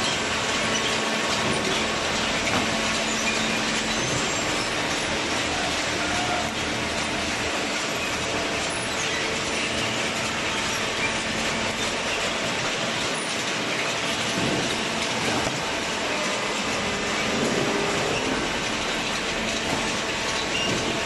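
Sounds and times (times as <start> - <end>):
hydraulic baling press running: 0.0 - 21.0.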